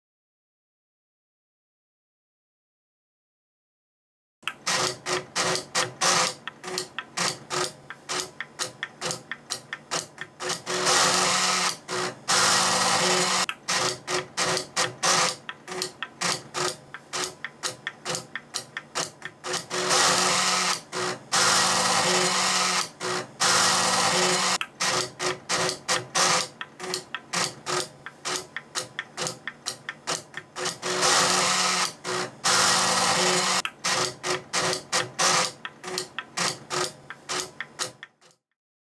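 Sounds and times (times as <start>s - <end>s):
machine buzzing: 4.5s - 38.4s
printing machine clicking: 4.5s - 38.4s.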